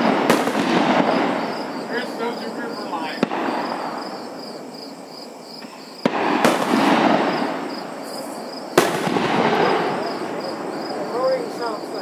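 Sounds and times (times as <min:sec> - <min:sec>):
firework bangs with rumbling echo: 0:00.0 - 0:04.6, 0:05.6 - 0:12.0.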